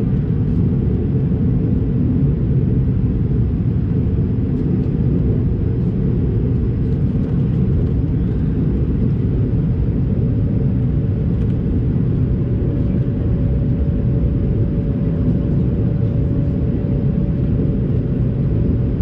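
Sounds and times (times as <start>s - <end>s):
aircraft cabin engine roar: 0.0s - 19.0s.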